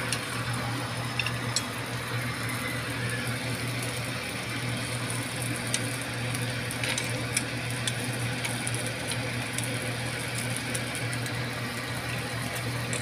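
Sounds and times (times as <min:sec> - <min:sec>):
mussels hissing on grill pan: 0:02.4 - 0:13.0.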